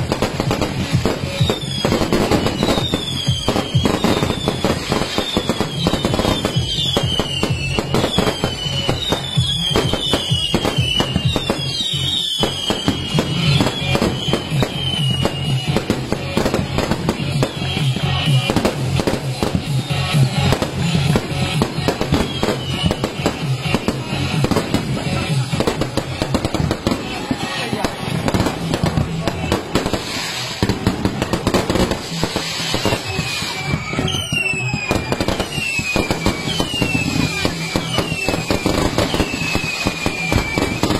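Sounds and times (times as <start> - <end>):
falling firework whistles: 0.0 - 40.9
fireworks crackling and banging: 0.0 - 40.9.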